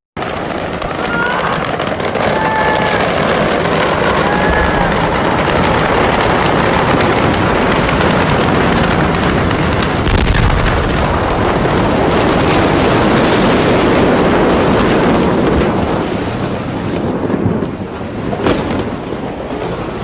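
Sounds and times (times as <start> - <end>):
crackling explosion rumble: 0.2 - 20.0.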